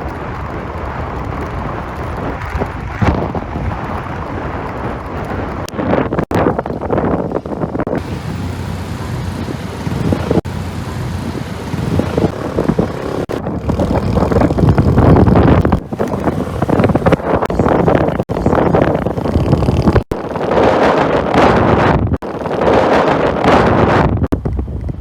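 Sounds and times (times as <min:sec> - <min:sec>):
vehicle motor running: 0:00.0 - 0:20.3
wind on microphone: 0:00.0 - 0:25.0.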